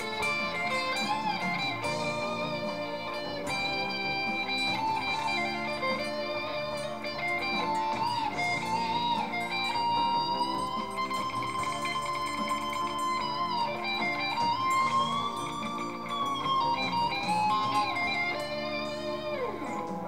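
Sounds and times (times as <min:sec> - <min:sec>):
electric guitar slow lead melody: 0:00.0 - 0:20.0.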